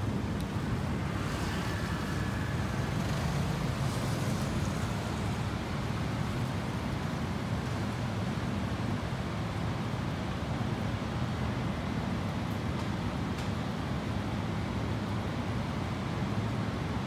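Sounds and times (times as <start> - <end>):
low street rumble: 0.0 - 16.0.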